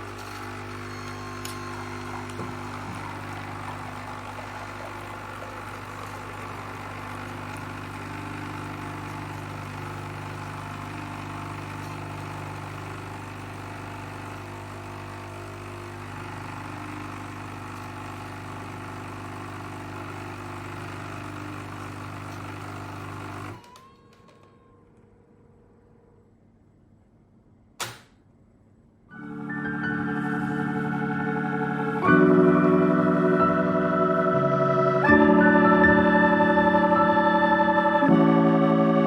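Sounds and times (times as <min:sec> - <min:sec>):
coffee machine pump drone: 0:00.0 - 0:23.8, 0:29.2 - 0:39.0.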